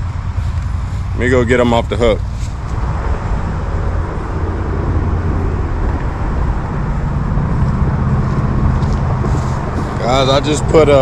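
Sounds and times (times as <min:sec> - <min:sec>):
engine rumble: 0:00.0 - 0:11.0
low hum: 0:00.0 - 0:11.0.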